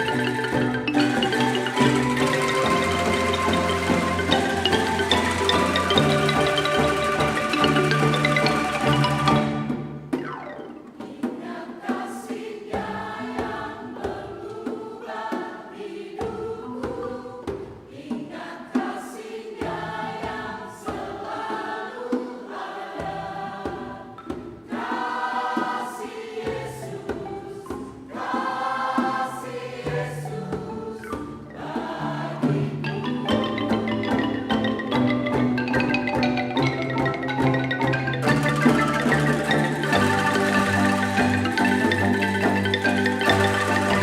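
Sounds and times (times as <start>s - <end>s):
angklung and kulintang ensemble: 0.0s - 44.0s.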